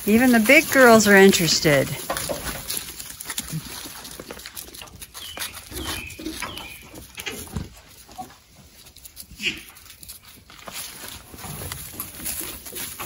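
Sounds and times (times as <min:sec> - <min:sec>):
rustling: 0:00.0 - 0:13.0.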